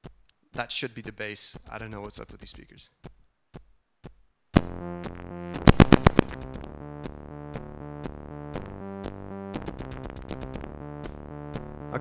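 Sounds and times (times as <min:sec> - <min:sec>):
drum pattern with steady tick: 0:00.0 - 0:12.0.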